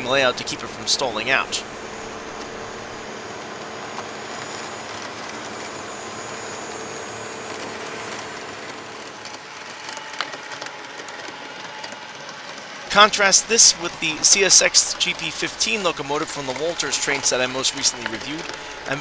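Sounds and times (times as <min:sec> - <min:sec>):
model train motor buzzing: 0:00.0 - 0:19.0
wheels clicking on track: 0:00.0 - 0:19.0.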